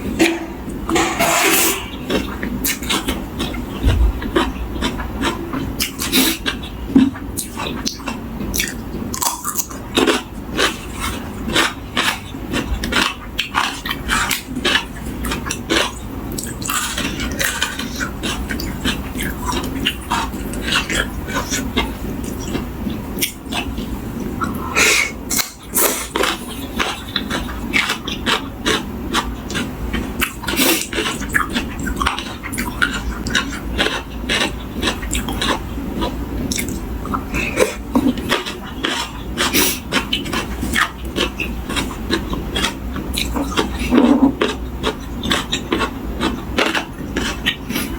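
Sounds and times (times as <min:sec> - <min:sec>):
person chewing crunchy vegetables: 0:00.0 - 0:47.9.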